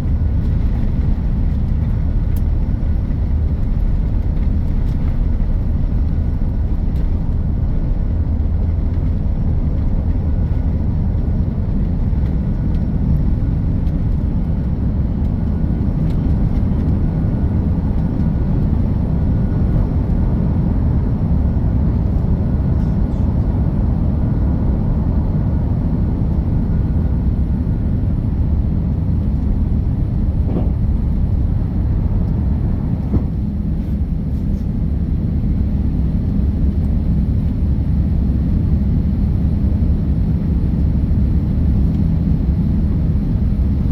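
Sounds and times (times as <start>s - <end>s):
jet engines rumbling: 0.0s - 43.9s.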